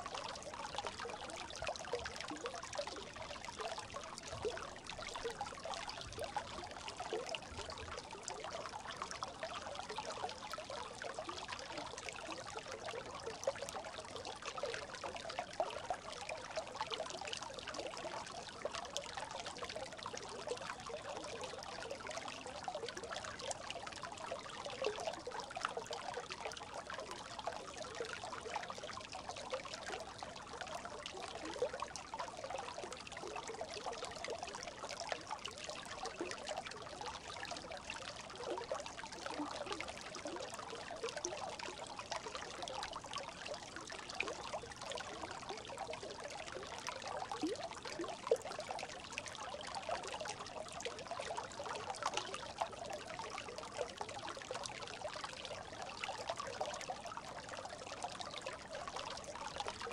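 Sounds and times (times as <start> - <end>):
brook babbling: 0.0 - 59.9.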